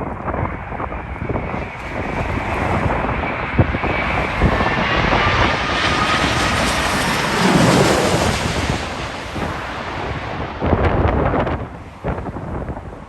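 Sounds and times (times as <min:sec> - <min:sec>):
jet airliner passing overhead: 0:00.0 - 0:13.0
wind buffeting microphone: 0:00.0 - 0:13.0.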